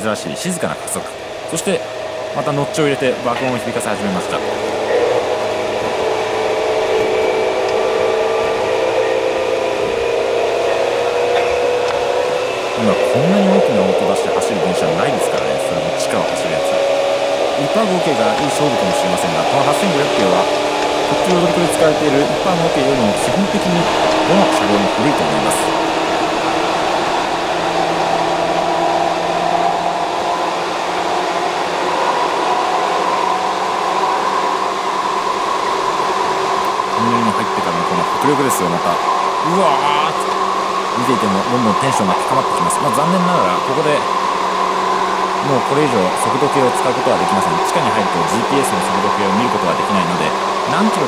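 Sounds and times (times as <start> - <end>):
electric train motor whine: 0.0 - 51.0
rail rumble: 0.0 - 51.0.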